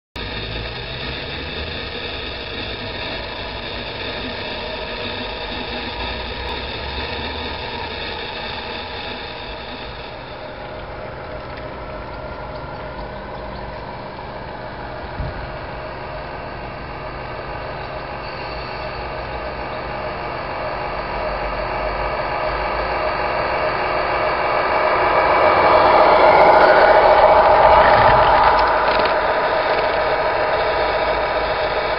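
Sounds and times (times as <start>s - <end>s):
model truck engine drone: 0.0s - 31.9s.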